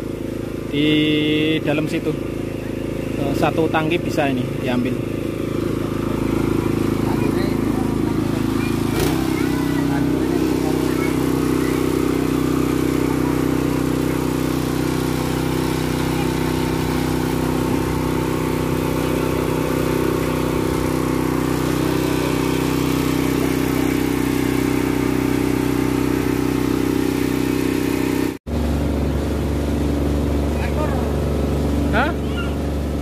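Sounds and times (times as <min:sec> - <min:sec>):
water pump engine running: 0:00.0 - 0:33.0.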